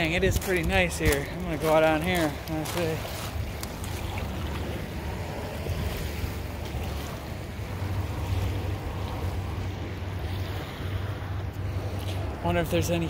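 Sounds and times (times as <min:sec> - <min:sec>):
waves lapping on pebbly shore: 0:00.0 - 0:13.0.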